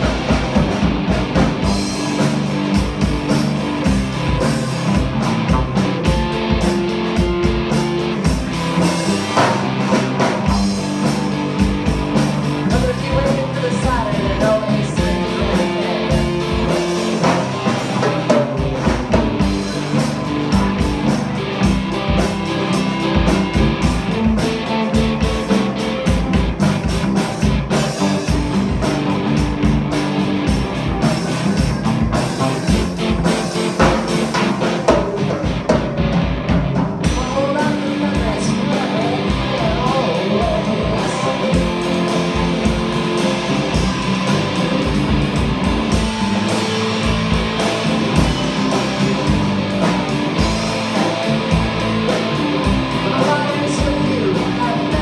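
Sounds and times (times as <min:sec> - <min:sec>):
drum kit beat: 0:00.0 - 0:55.0
electric guitars: 0:00.0 - 0:55.0.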